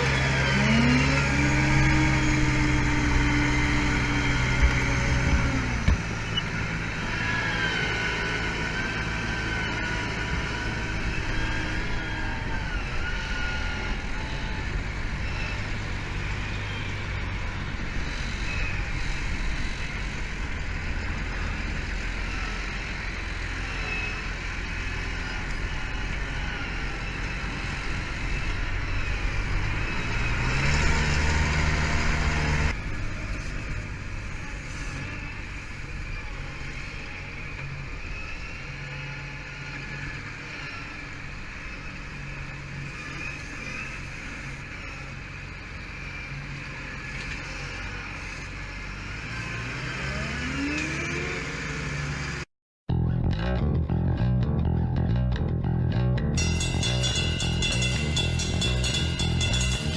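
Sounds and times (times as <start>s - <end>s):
large engine running: 0.0s - 49.2s, 50.1s - 59.9s.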